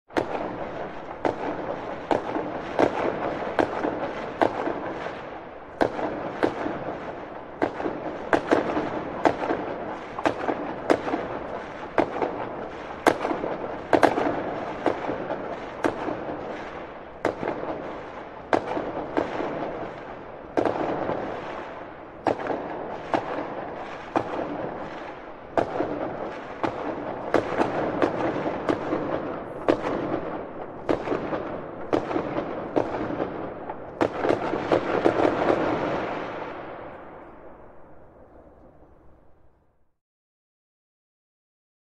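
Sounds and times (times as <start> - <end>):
fireworks crackling: 0.1 - 39.0
fireworks bangs: 0.1 - 39.4.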